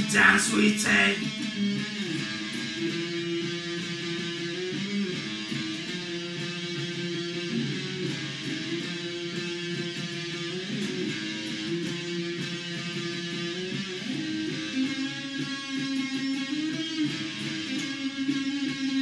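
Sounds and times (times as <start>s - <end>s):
electric guitar strummed chords: 0.0s - 19.0s.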